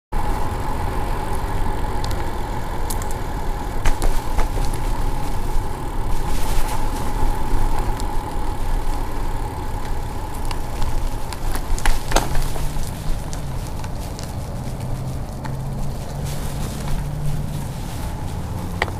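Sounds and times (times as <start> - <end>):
bicycle road rumble: 0.1 - 18.9
steady high hum: 0.1 - 18.9
sharp clicks and rattles: 0.2 - 18.9.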